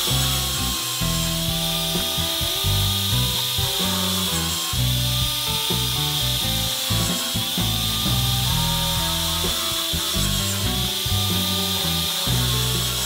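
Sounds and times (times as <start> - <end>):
background music with bass: 0.0 - 13.0
electric drill boring into wood: 0.0 - 13.0.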